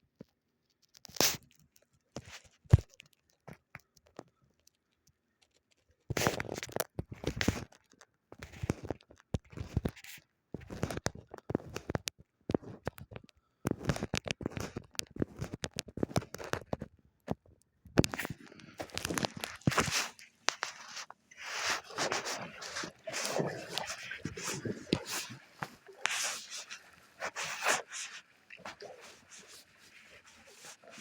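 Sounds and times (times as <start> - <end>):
close crunching and scraping: 5.6 - 31.0.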